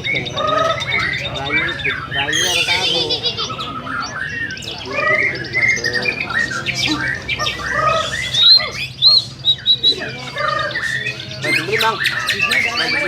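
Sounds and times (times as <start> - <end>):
many songbirds singing: 0.0 - 13.0.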